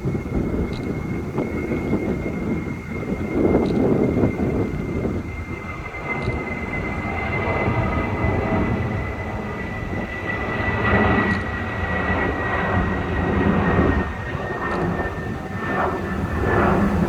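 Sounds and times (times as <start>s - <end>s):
jet airliner passing overhead: 0.0s - 17.0s.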